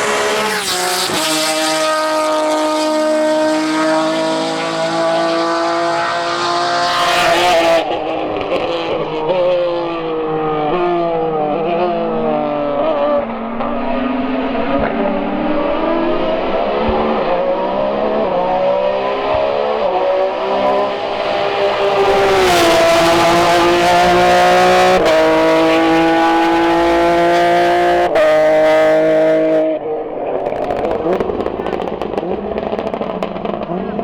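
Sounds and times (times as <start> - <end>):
race car engine revving: 0.0 - 34.0.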